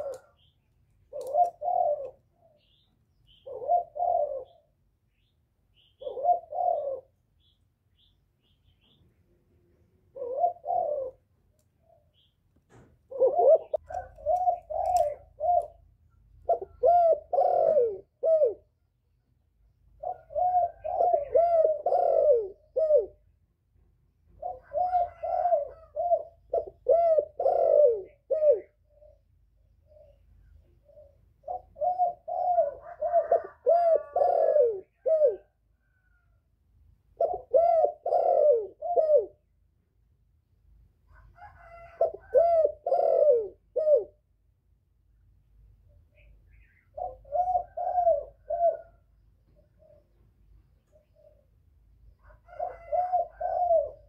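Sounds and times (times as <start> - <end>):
dove cooing: 0.0 - 4.9, 5.8 - 7.2, 10.0 - 12.2, 13.1 - 18.8, 19.8 - 23.4, 24.3 - 36.4, 37.1 - 39.6, 41.1 - 44.3, 46.2 - 54.0.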